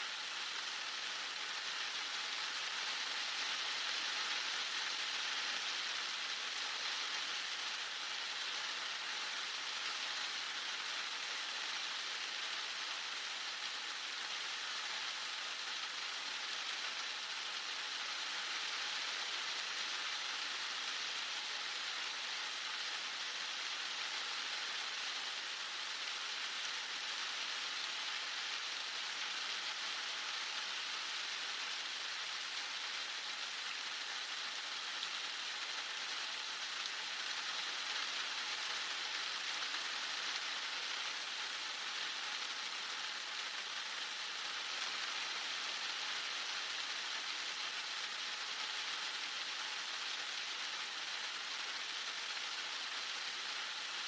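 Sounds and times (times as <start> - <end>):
heavy rain on surfaces: 0.1 - 54.0.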